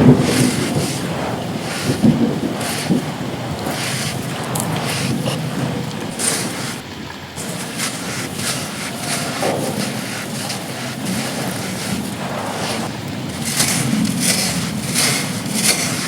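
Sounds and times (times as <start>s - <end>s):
dry sand clumps crunching: 0.0s - 16.0s
rain: 0.0s - 16.0s
wind buffeting microphone: 0.0s - 16.0s.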